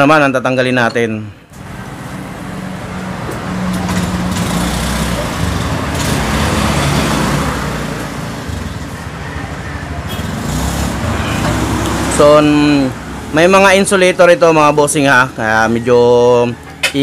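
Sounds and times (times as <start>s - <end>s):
vehicle engine humming: 1.4s - 17.0s.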